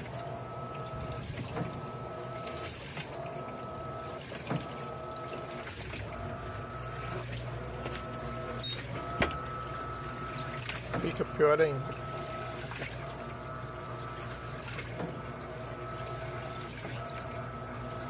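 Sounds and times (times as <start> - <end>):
washing machine motor whine: 0.0 - 18.0
water sloshing: 0.0 - 18.0.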